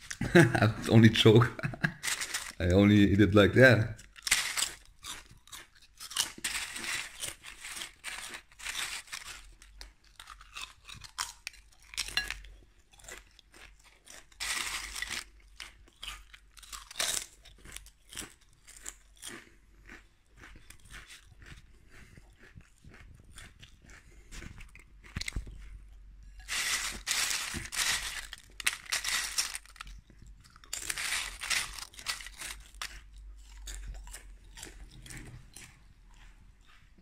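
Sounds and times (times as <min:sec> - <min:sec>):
chips crunching and chewing: 0:00.0 - 0:36.8.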